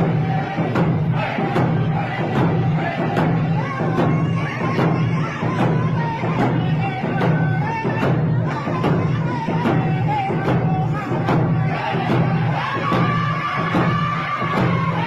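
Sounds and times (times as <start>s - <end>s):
frame drums beating: 0.0s - 15.0s.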